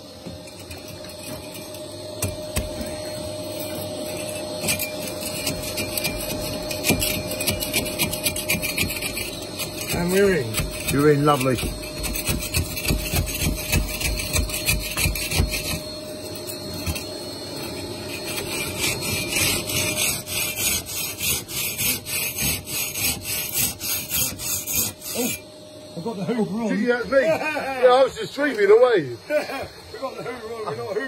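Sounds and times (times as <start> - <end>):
hand saw rasping through concrete: 0.3 - 25.4.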